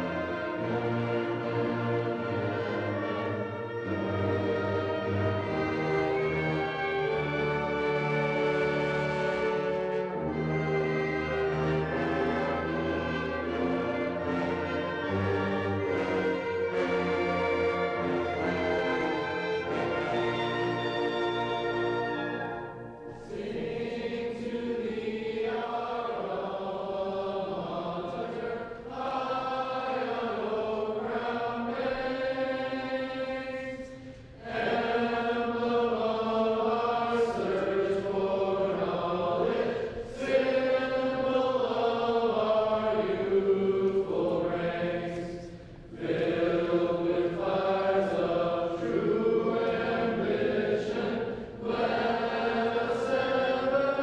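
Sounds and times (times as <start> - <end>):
group of voices singing a hymn: 0.0 - 54.0.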